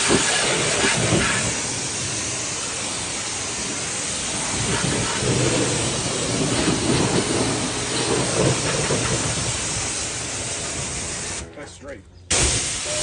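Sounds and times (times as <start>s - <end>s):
high-pressure water spray hissing: 0.0s - 11.4s, 12.3s - 13.0s.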